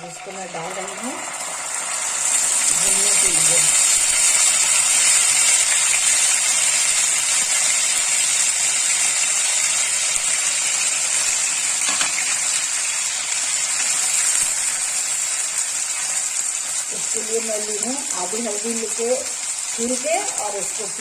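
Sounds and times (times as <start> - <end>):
paste sizzling in hot ghee: 0.0 - 21.0.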